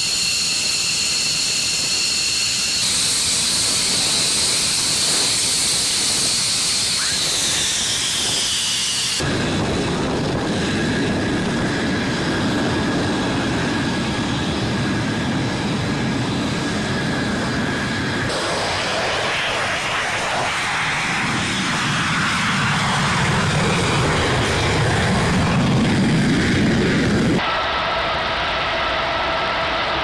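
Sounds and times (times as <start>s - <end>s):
jet turbine whine: 0.0s - 30.0s
rough jet rumble: 0.0s - 30.0s.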